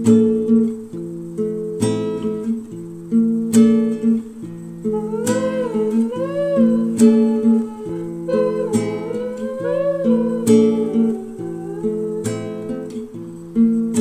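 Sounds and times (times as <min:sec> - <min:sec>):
acoustic guitar strumming chords: 0:00.0 - 0:14.0
sliding guitar melody: 0:00.0 - 0:14.0.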